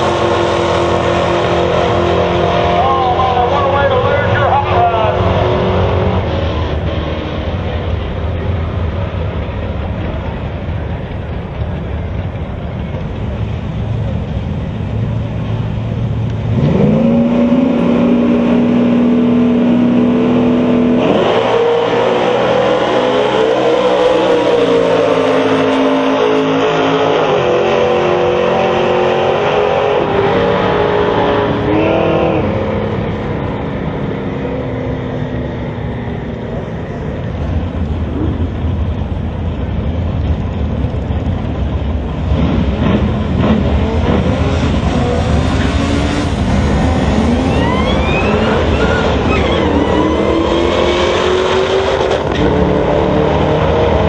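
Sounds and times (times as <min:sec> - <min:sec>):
drag racing cars at full throttle: 0:00.0 - 0:54.0.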